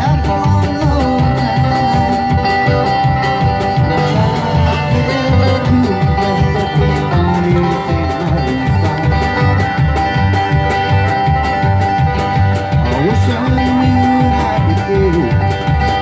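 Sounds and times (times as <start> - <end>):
acoustic guitar: 0.0 - 16.0
drums keeping a steady beat: 0.0 - 16.0
plucked upright bass: 0.0 - 16.0.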